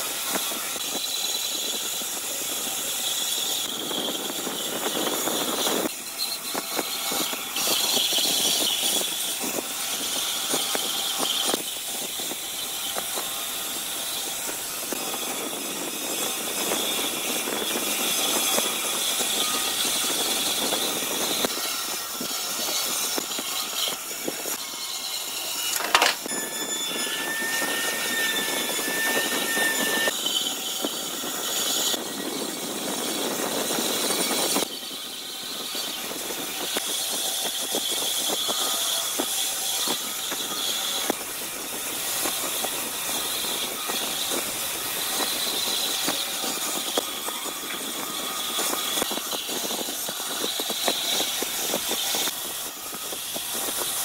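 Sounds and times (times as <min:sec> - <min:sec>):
loud mechanical machine noise: 0:00.0 - 0:54.0.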